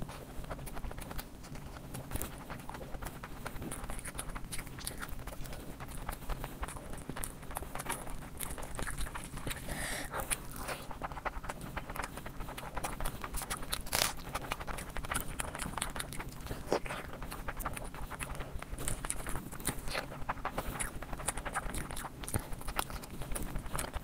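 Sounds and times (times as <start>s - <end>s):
wet chewing and lip smacking: 0.0s - 24.0s.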